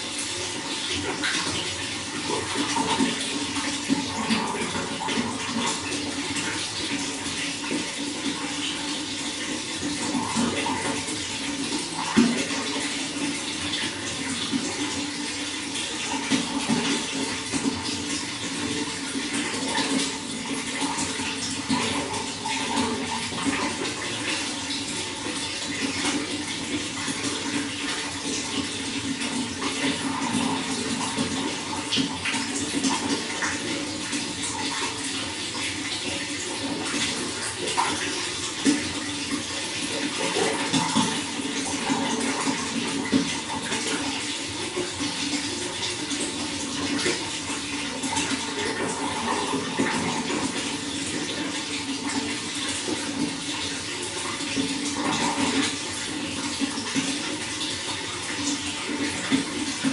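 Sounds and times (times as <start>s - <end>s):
running water splashing and gurgling: 0.0s - 59.9s.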